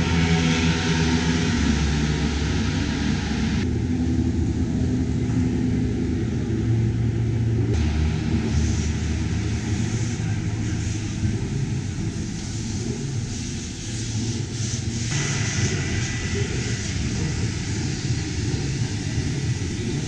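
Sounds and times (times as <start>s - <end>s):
racing car engines running: 0.0s - 20.0s.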